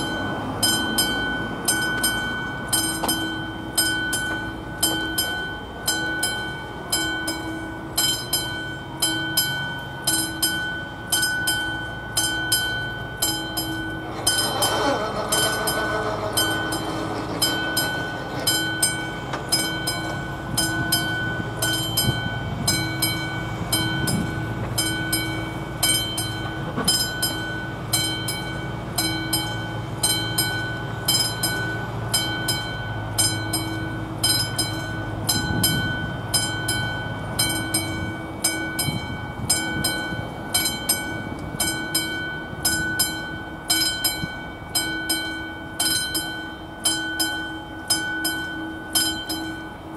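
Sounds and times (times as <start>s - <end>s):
level crossing bell ringing: 0.0s - 49.9s.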